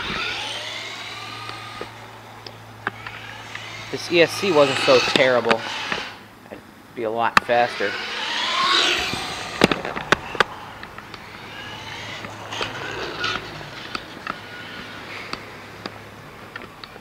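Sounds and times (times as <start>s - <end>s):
electric motor whining: 0.0s - 6.6s, 7.2s - 17.0s.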